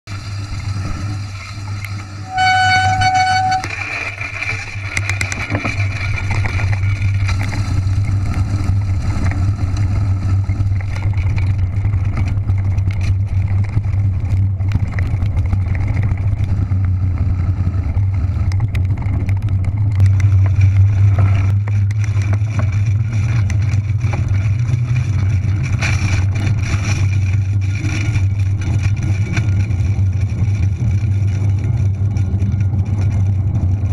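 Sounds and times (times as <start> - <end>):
tyres rolling on dirt: 0.1 - 33.9
wind rumble on microphone: 0.1 - 33.9.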